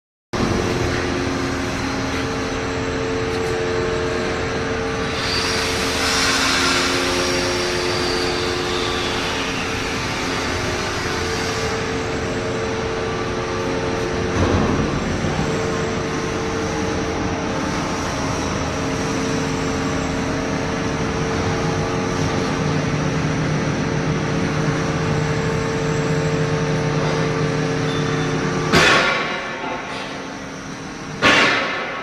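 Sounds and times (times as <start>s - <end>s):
workshop machinery humming: 0.4s - 32.0s.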